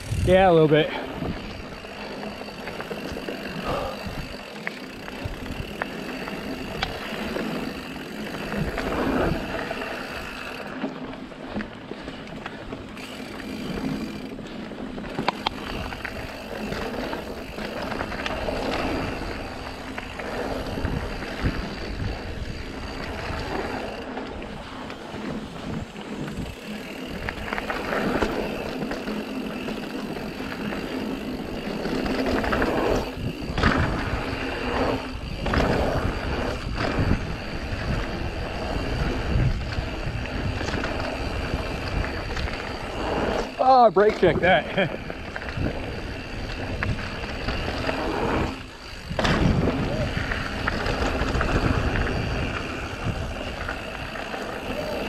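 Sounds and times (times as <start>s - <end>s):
wind buffeting microphone: 0.0s - 10.7s, 15.2s - 43.6s, 44.2s - 55.0s
bike rattling and clicking: 0.0s - 55.0s
tyres rolling over dirt and leaves: 0.4s - 55.0s.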